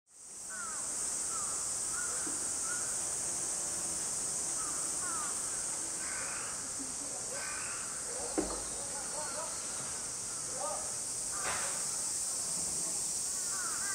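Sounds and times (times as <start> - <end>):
cicada chorus drone: 0.1 - 13.9.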